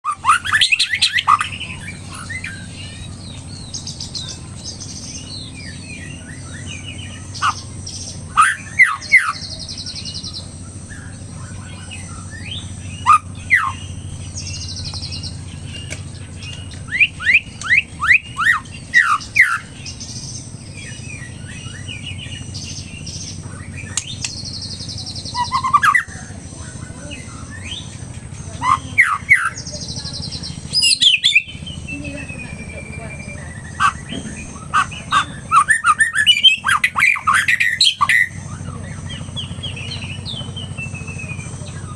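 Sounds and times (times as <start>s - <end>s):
bird whistled notes: 0.0s - 41.9s
steady low hum: 0.0s - 41.9s
buzzy rattling bird notes: 0.1s - 41.9s.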